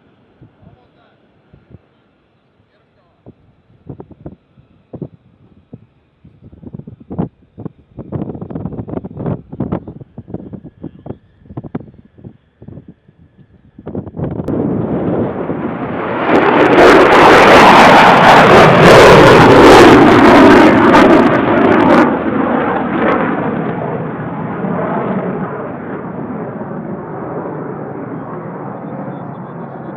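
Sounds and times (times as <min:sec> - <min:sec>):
jet engine roaring past: 0:03.4 - 0:29.9.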